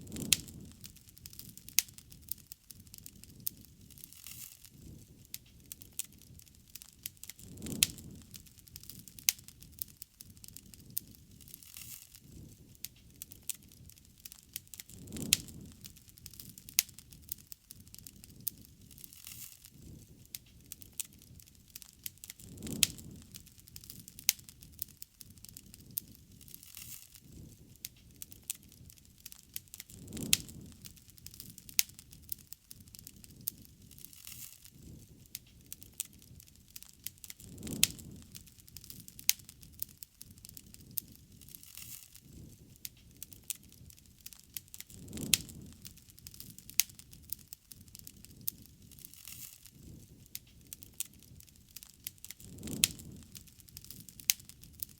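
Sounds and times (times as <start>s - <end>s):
bonfire crackling and popping: 0.0s - 54.9s
low rumble of flames: 0.0s - 54.9s.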